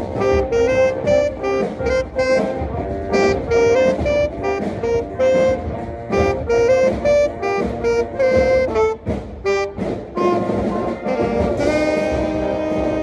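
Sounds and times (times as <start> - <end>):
saxophone short notes: 0.0 - 13.0
wind instruments holding chords: 0.0 - 13.0.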